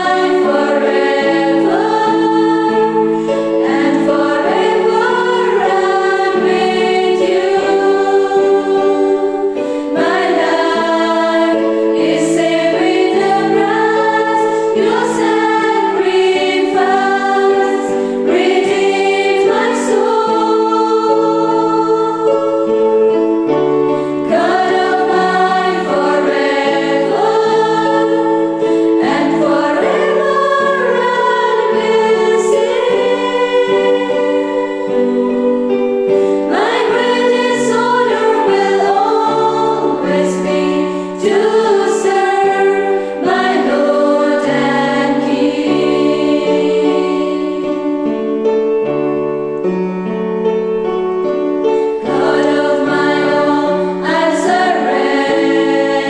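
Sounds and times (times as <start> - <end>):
women's choir singing a hymn: 0.0 - 49.9, 51.6 - 56.0.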